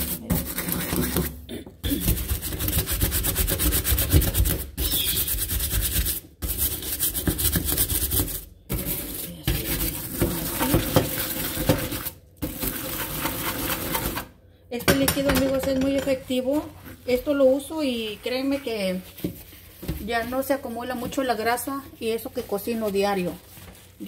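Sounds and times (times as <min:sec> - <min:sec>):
brush scrubbing a stovetop: 0:00.0 - 0:14.2, 0:15.3 - 0:24.0.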